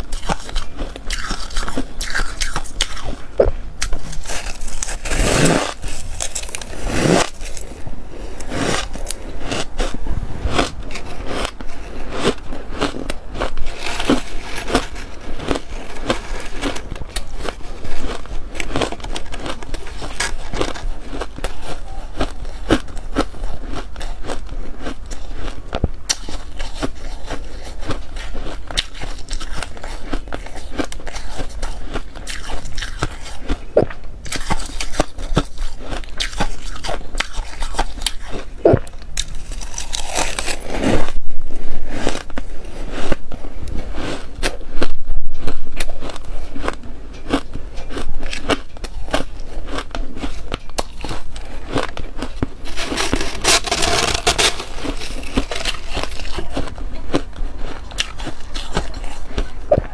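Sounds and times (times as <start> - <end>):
chewing crunchy frost: 0.0 - 59.9.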